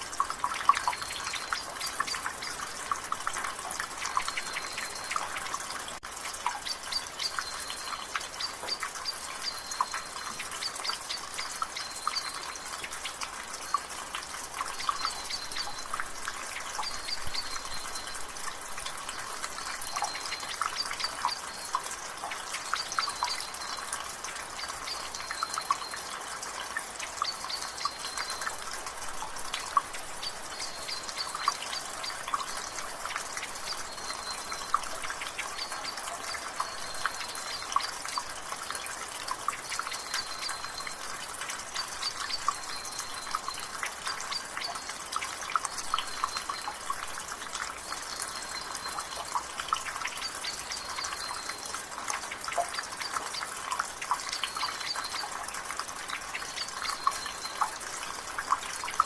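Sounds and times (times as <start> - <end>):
water dripping from gutter: 0.0 - 59.0.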